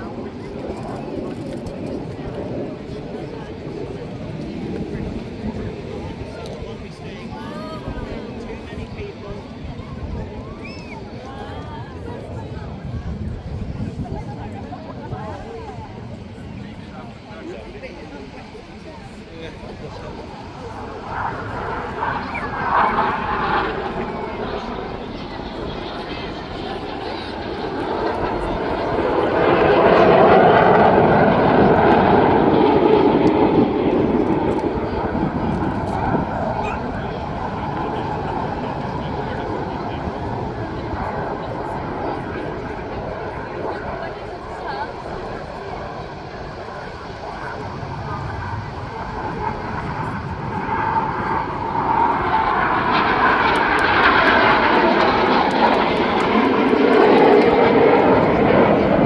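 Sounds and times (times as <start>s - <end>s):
aircraft flying past: 0.0s - 59.0s.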